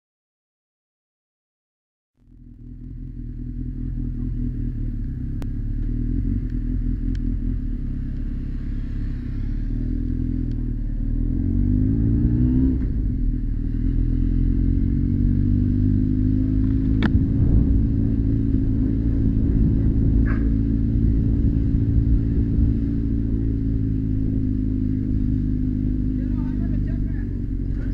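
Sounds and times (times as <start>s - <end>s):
motorcycle engine accelerating: 2.2s - 27.9s.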